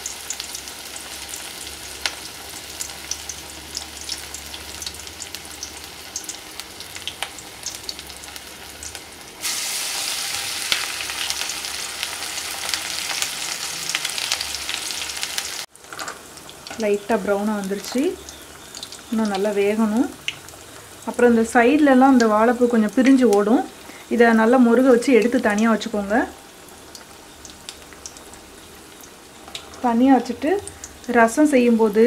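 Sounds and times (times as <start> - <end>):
food deep-frying in oil: 0.0 - 32.0.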